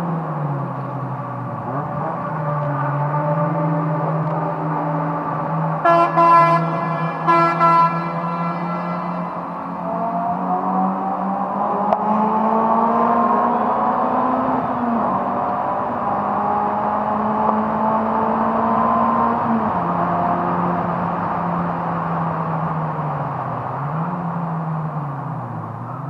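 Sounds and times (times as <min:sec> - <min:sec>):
car engine accelerating through gears: 0:00.0 - 0:26.0.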